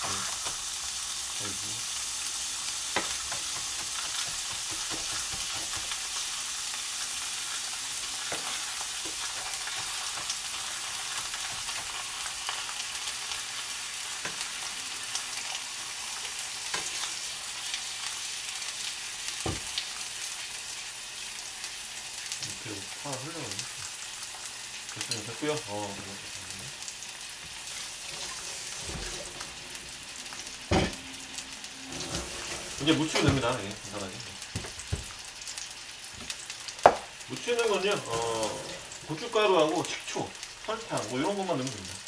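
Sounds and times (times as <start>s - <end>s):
meat sizzling in a frying pan: 0.0s - 42.0s.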